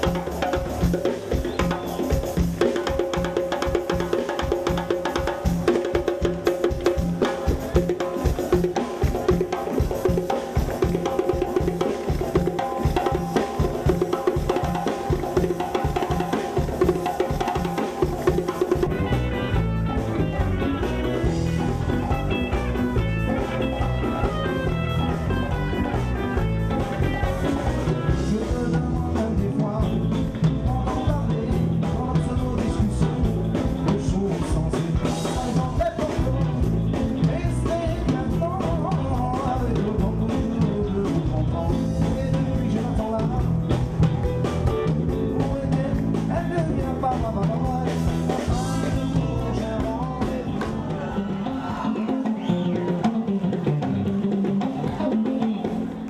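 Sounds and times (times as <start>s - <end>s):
guitar: 0.0s - 56.0s
person singing: 0.0s - 56.0s
steady drum beat: 0.0s - 56.0s.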